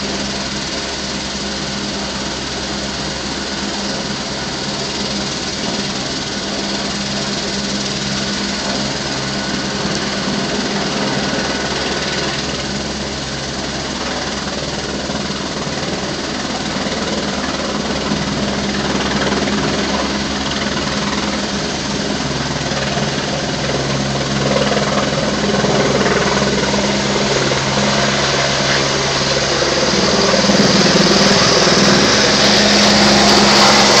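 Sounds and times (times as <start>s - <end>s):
helicopter rotor and turbine whine: 0.0s - 34.0s.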